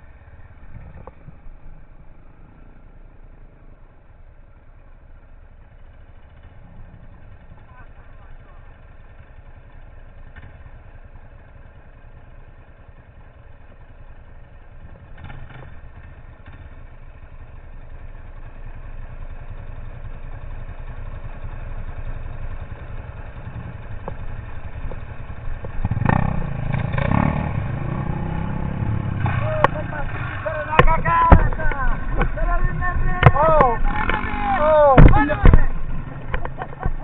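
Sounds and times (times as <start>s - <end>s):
motorcycle engine rumbling: 0.0s - 37.0s.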